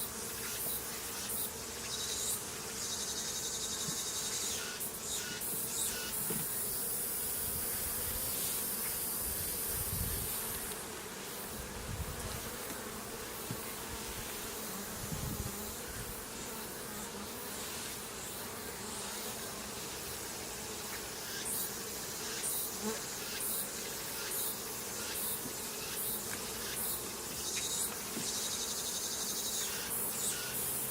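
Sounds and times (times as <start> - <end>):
honeybees buzzing: 0.0 - 30.9.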